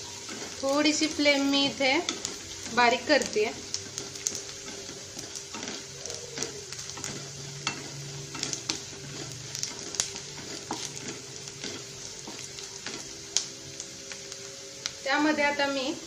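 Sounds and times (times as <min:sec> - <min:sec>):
wooden spatula scraping a pan: 0:00.0 - 0:13.3
onions sizzling in hot oil: 0:00.0 - 0:16.0.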